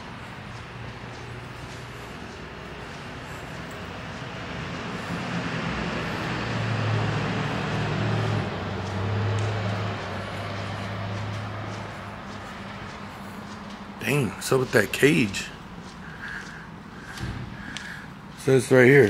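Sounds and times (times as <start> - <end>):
passing motor vehicle: 0.0 - 19.0.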